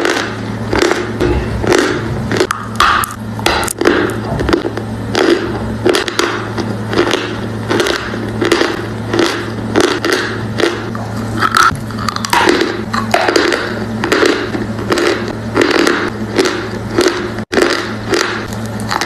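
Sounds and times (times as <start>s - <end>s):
chalk crunching while chewed: 0.0s - 19.0s
low steady hum: 0.0s - 19.0s.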